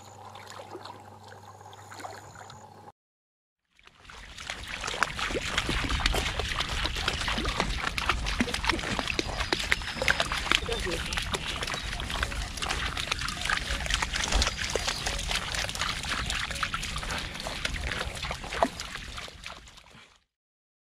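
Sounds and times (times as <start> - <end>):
dogs splashing through water: 0.0 - 2.7, 3.8 - 20.2.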